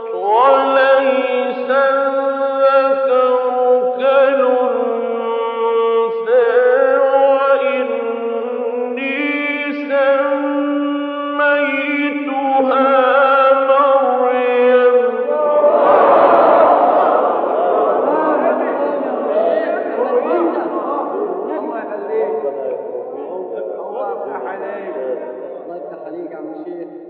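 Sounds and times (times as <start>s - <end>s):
man chanting melodic recitation: 0.0s - 15.8s, 18.2s - 27.0s.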